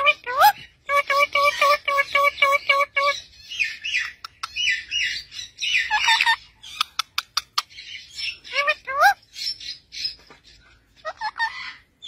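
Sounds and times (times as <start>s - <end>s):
parakeet chick squawking: 0.0s - 10.2s, 11.0s - 12.0s
parakeet chirps: 0.0s - 10.2s.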